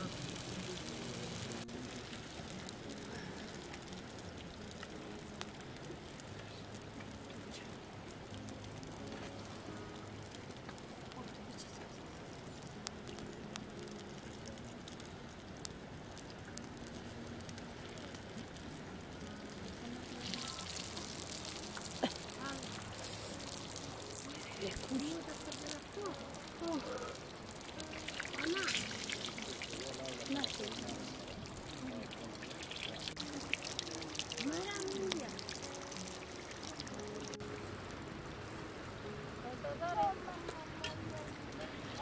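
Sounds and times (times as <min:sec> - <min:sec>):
oil popping and crackling: 0:00.0 - 0:39.1, 0:40.4 - 0:42.0
food sizzling in hot oil: 0:00.0 - 0:39.2.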